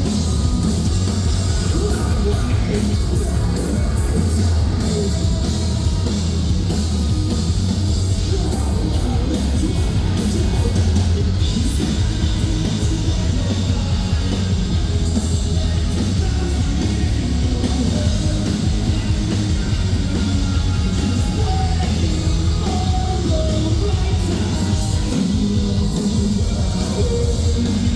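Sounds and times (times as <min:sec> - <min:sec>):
live metal band playing: 0:00.0 - 0:27.9
vocals: 0:00.0 - 0:27.9.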